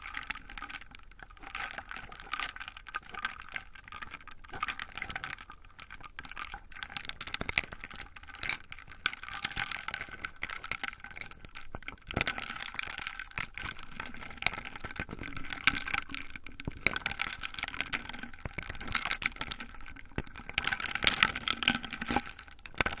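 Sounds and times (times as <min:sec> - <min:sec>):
liquid pouring into container: 0:00.0 - 0:23.0
small clinks and taps: 0:00.0 - 0:23.0.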